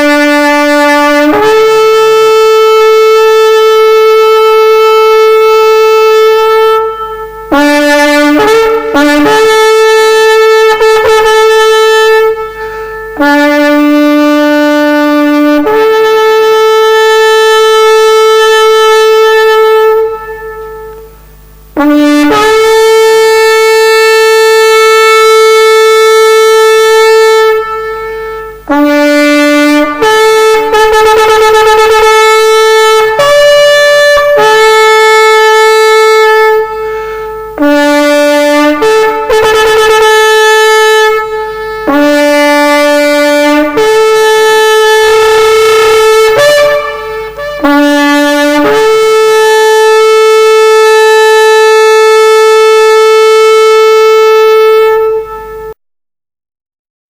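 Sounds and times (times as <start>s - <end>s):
shofar blasts: 0.0s - 55.8s.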